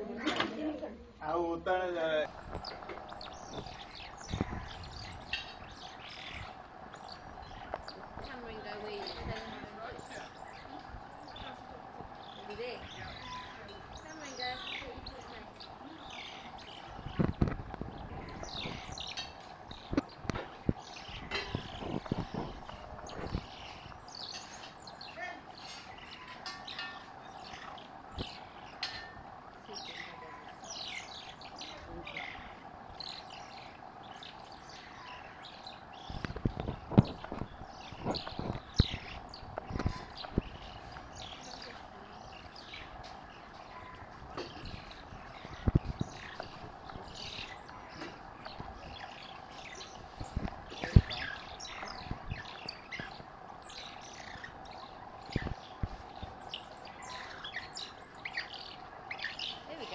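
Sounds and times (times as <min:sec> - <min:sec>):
steady background hum: 0:00.0 - 0:59.9
mongooses chirping and twittering: 0:02.0 - 0:59.9.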